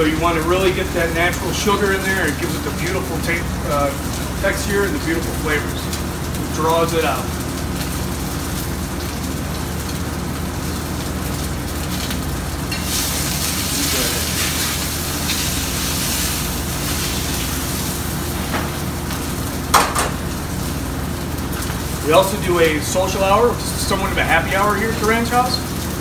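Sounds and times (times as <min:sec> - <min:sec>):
exhaust hood humming: 0:00.0 - 0:26.0
steak sizzling in a skillet: 0:00.1 - 0:26.0.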